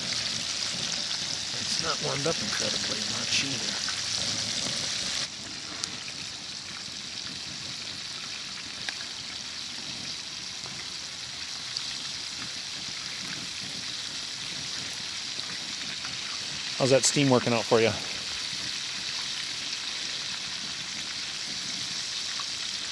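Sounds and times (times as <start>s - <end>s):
chicken deep-frying in oil: 0.0s - 22.9s.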